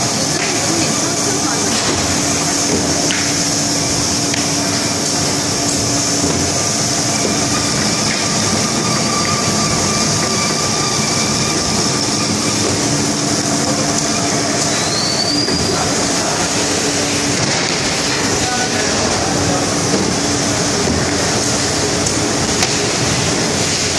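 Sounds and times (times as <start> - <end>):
production line mechanical din: 0.0 - 23.9
short rising whine: 3.4 - 23.9.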